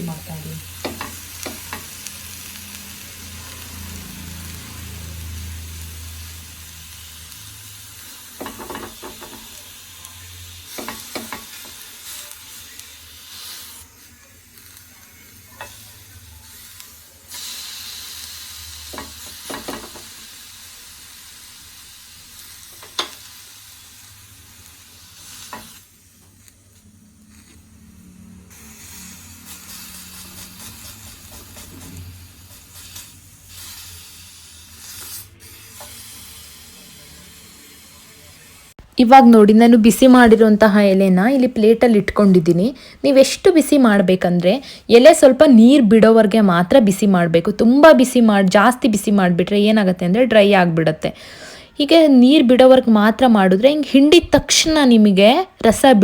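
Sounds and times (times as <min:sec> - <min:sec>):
leaves sizzling on a hot pan: 0:00.0 - 0:56.0.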